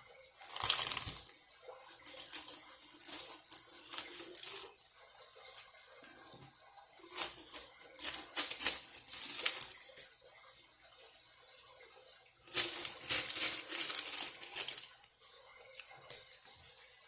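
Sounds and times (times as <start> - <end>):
coins clinking: 0.4 - 10.2, 12.4 - 16.4.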